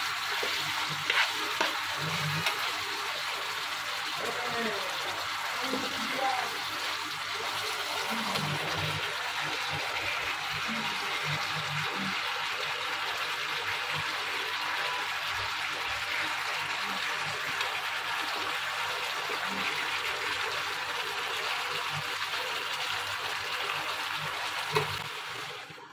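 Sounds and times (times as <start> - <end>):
curry simmering and sizzling in pan: 0.0 - 25.9.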